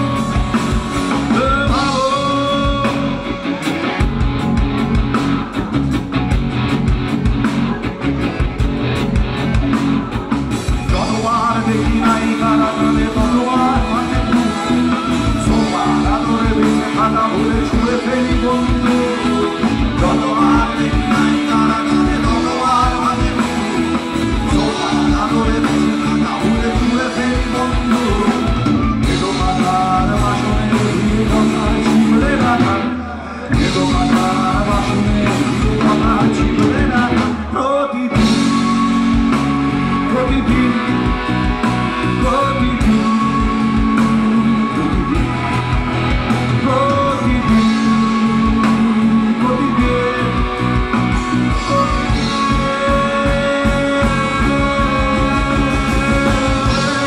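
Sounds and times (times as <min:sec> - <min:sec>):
man singing lead vocals: 0:00.0 - 0:05.8, 0:09.4 - 0:57.0
live rock band playing: 0:00.0 - 0:57.0.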